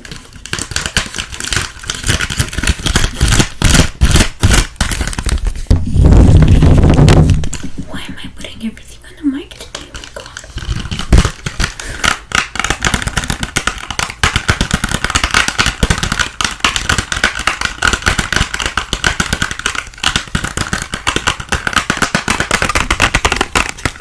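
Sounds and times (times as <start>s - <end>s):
fast sharp clicks at microphone: 0.0s - 7.8s, 9.6s - 24.0s.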